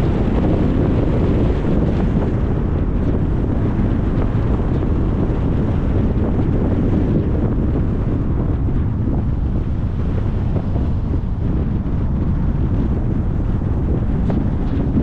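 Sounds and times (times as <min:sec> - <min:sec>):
car driving on a road: 0:00.0 - 0:15.0.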